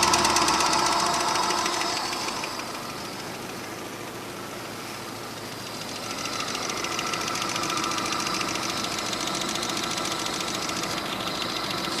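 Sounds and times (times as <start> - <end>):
engine running with rhythmic knock: 0.0 - 12.0.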